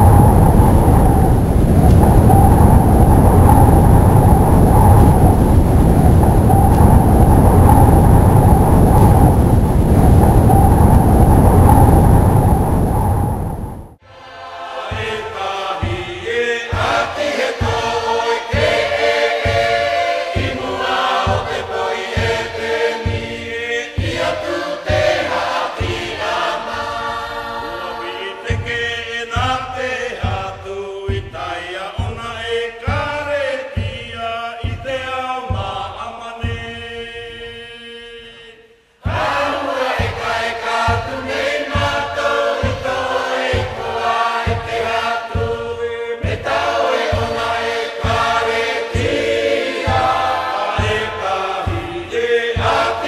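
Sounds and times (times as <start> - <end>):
choral song over a beat: 0.0 - 53.0.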